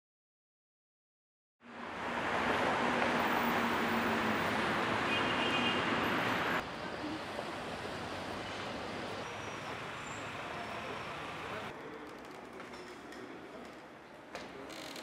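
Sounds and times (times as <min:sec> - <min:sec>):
traffic noise: 0:01.6 - 0:15.0.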